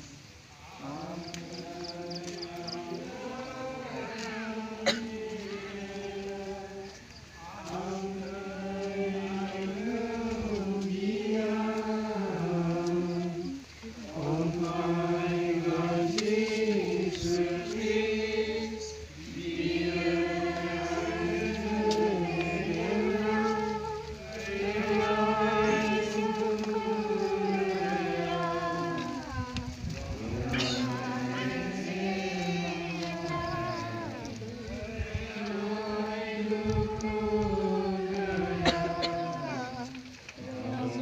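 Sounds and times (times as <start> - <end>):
group singing a hymn: 0.0 - 41.0.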